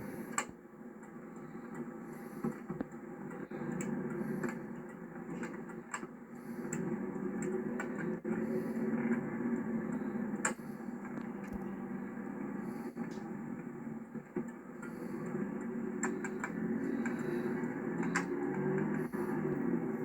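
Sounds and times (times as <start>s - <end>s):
car cabin road and engine drone: 0.0s - 20.0s.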